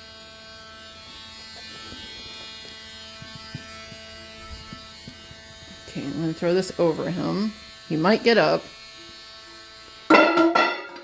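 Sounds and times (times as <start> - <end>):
rotary tool whining: 0.5 - 10.1.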